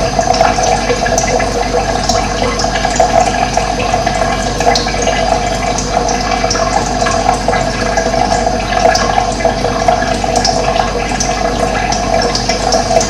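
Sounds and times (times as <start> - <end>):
stream flowing and bubbling: 0.0 - 13.0.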